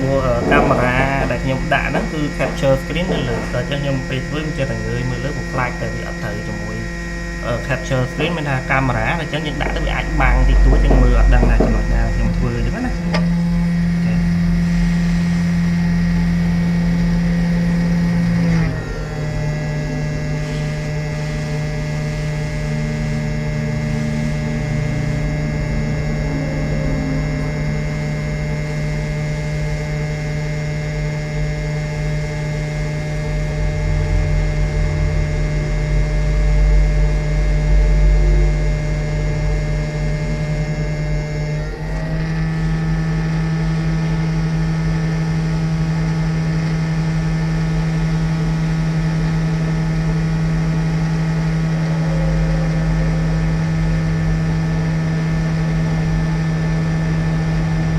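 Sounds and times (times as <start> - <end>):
machine hum: 0.0 - 57.9.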